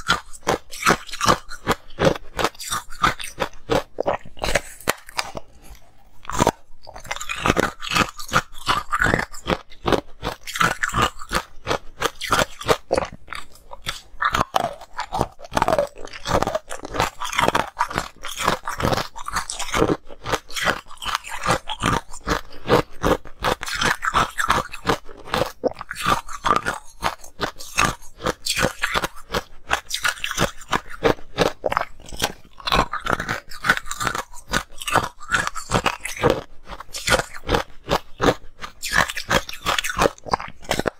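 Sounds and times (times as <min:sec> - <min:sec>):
chewing: 0:00.0 - 0:40.9
ice crunching between teeth: 0:00.0 - 0:40.9.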